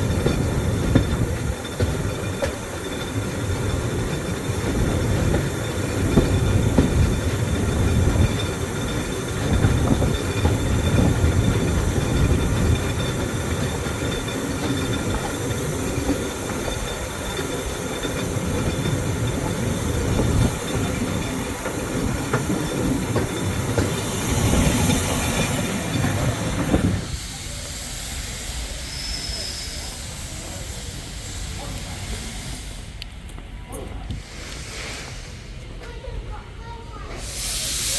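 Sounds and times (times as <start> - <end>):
train wheels clattering on rails: 0.0 - 37.9.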